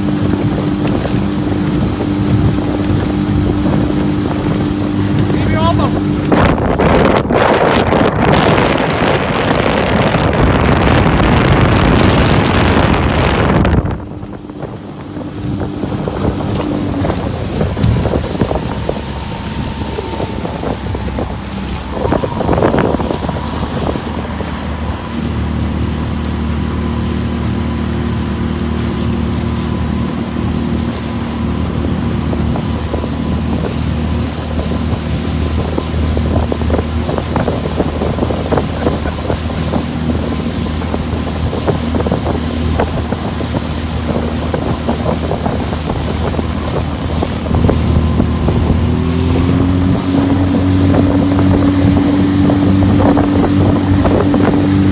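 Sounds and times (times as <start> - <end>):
outboard motor running: 0.0 - 54.9
water rushing past hull: 0.0 - 54.9
wind rush on microphone: 0.0 - 54.9.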